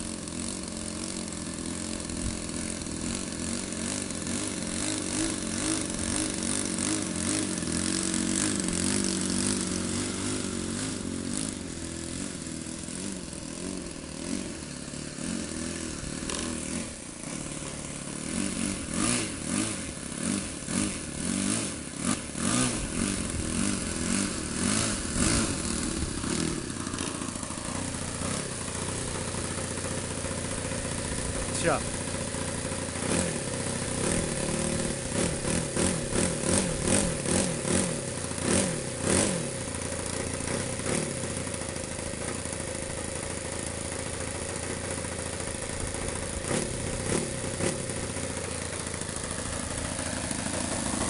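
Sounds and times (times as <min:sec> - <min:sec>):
model plane engine revving: 0:00.0 - 0:51.0.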